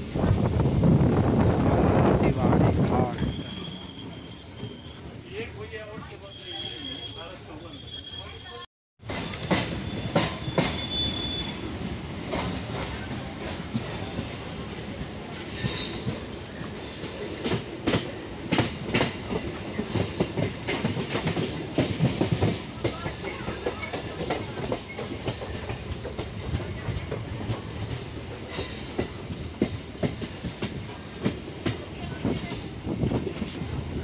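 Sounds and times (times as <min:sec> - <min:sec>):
train rumble: 0:00.0 - 0:03.4, 0:09.0 - 0:34.0.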